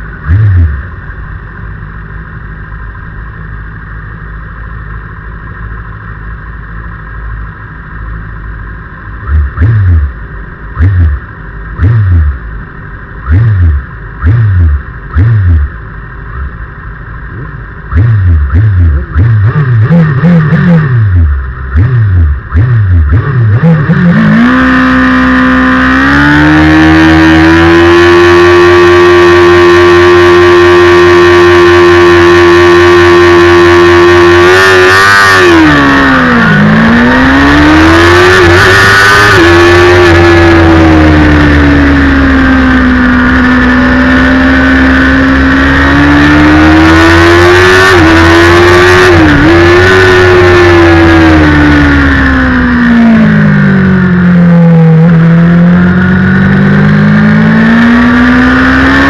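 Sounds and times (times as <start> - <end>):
motorcycle engine revving: 0.0 - 3.7, 5.7 - 59.0.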